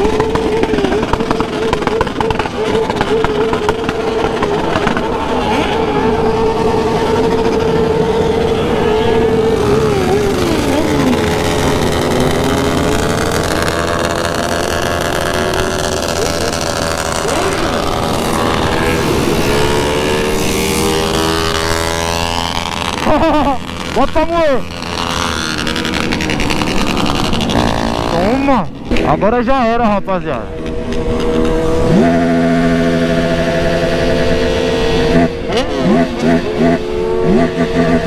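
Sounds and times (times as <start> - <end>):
group of motorcycle engines: 0.0 - 38.0.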